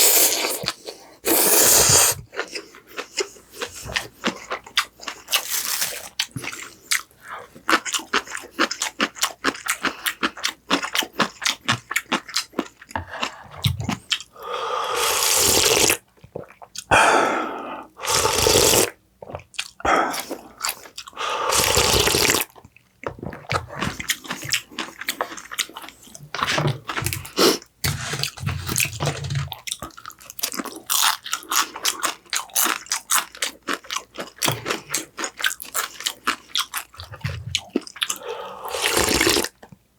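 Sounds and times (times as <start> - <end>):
crunchy chewing of food: 0.0 - 14.4, 18.0 - 39.8.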